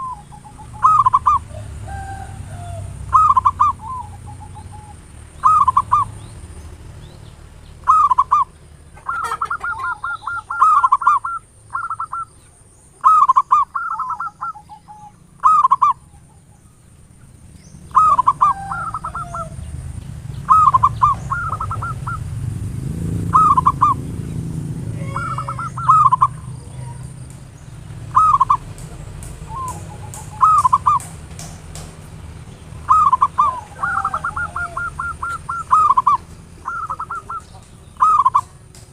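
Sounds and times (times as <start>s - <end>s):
doves cooing: 0.0s - 12.4s, 13.0s - 38.9s.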